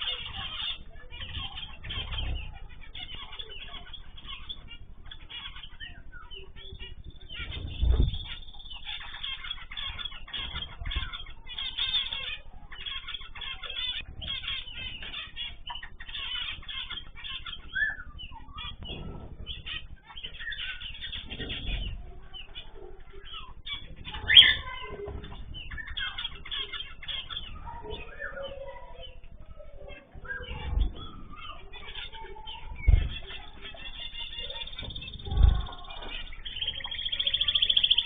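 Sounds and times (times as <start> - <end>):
small birds chirping: 0.0 - 38.0
wings fluttering: 0.0 - 38.0.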